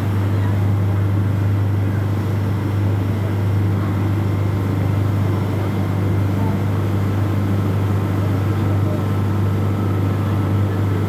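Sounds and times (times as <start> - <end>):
boat engine running steadily: 0.0 - 11.0.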